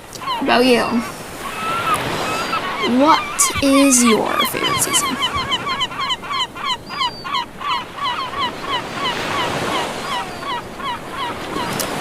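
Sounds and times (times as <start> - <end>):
surf washing: 0.0 - 12.0
bird yelping calls: 0.1 - 11.7.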